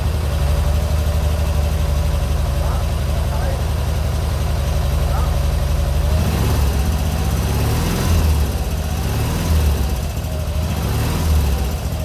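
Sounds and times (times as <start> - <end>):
motorcycle engine idling: 0.0 - 9.1, 9.8 - 12.0.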